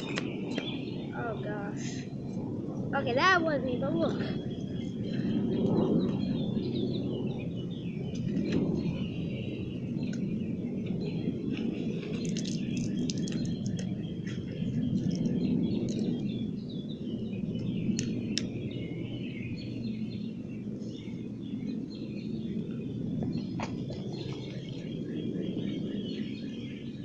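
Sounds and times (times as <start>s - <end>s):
low rumble: 0.0s - 27.0s
small birds chirping: 0.0s - 27.0s.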